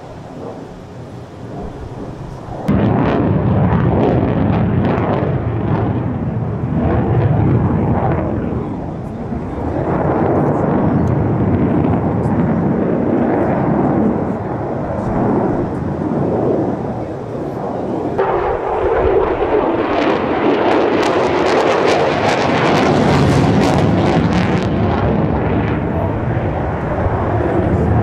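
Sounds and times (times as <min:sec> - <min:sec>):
afterburner crackle: 0:00.0 - 0:28.0
fighter jet passing overhead: 0:00.0 - 0:28.0.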